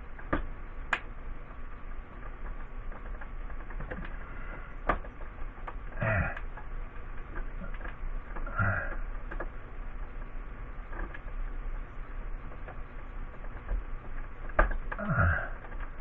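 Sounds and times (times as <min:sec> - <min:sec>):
small clicks and handling noises: 0:00.0 - 0:16.0
steady low hum: 0:00.0 - 0:16.0.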